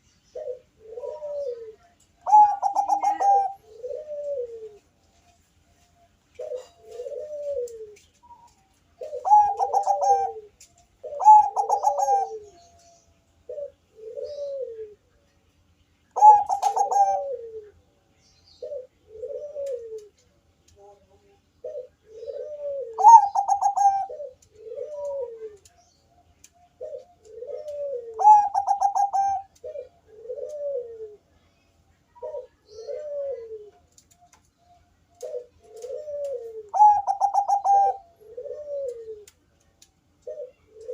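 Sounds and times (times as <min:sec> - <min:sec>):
doves cooing: 0:00.0 - 0:05.0, 0:06.3 - 0:15.1, 0:16.2 - 0:17.8, 0:18.5 - 0:25.8, 0:26.4 - 0:31.4, 0:32.2 - 0:39.4, 0:40.2 - 0:40.9.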